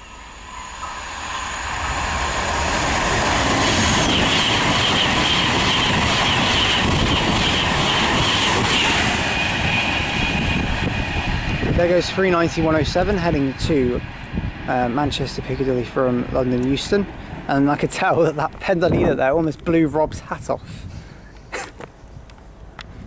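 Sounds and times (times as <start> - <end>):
electric train passing at speed: 0.0 - 20.5.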